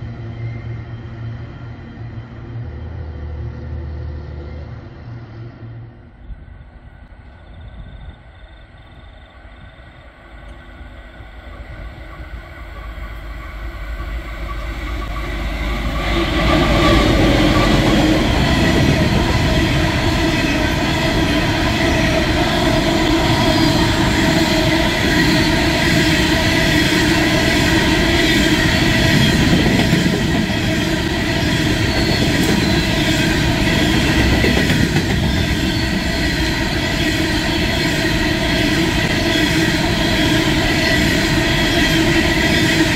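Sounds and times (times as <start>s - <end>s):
diesel locomotive approaching: 0.0s - 42.9s
train wheels on rails: 0.0s - 42.9s.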